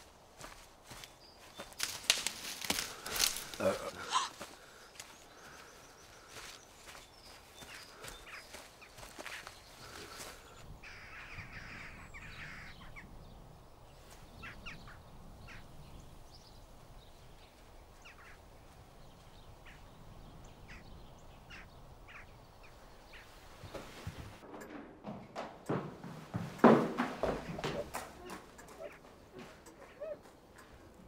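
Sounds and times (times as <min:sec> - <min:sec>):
birds calling: 0:00.0 - 0:24.5, 0:25.6 - 0:31.0.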